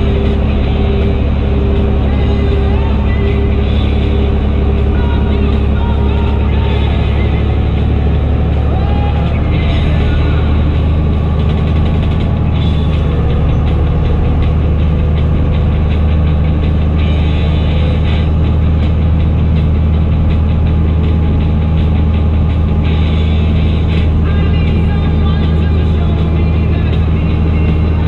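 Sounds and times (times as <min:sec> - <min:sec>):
tractor diesel engine drone: 0:00.0 - 0:28.0.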